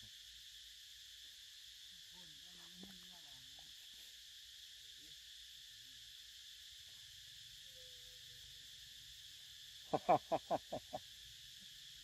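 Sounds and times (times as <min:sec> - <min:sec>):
high drone of insects: 0:00.0 - 0:12.0.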